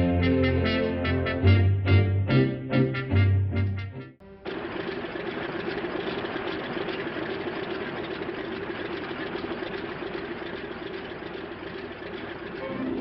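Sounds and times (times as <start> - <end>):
propeller aeroplane engine drone: 0.0 - 13.0.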